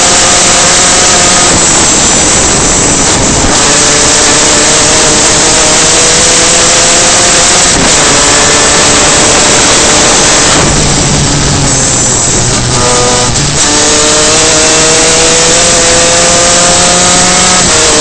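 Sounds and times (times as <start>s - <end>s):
kart engine: 0.0s - 18.0s
wind rush: 0.0s - 18.0s.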